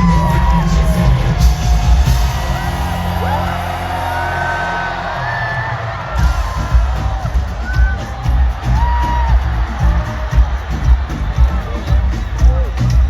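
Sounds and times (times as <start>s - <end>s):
fans screaming and whooping: 0.0s - 13.0s
live pop music over sound system: 0.0s - 13.0s.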